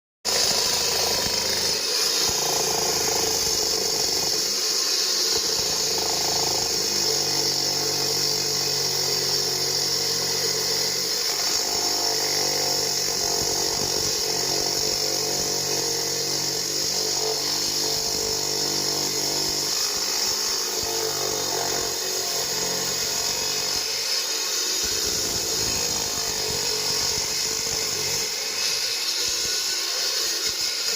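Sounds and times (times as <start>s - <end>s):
concrete saw cutting: 0.2s - 30.9s.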